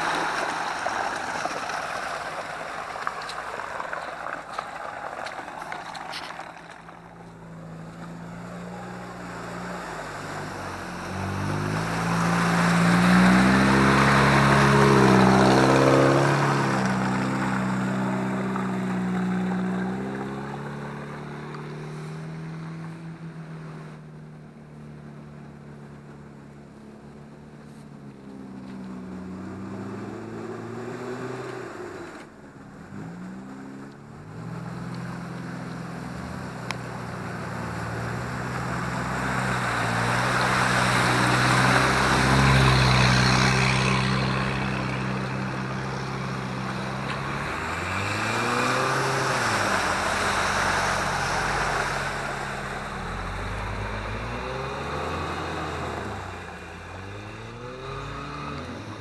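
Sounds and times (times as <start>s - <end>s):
water and mud rushing: 0.0s - 59.0s
engine revving: 5.4s - 24.2s, 27.7s - 59.0s.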